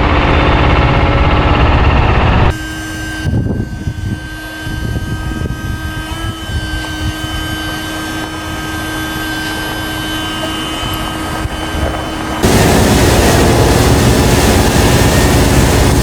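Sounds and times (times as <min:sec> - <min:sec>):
electric hydraulic drive whine: 0:00.0 - 0:16.0
loud diesel engine: 0:00.0 - 0:16.0.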